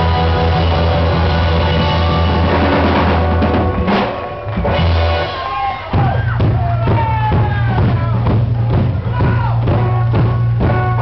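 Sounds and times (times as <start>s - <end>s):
drum kit: 0.0s - 11.0s
live rock band playing: 0.0s - 11.0s.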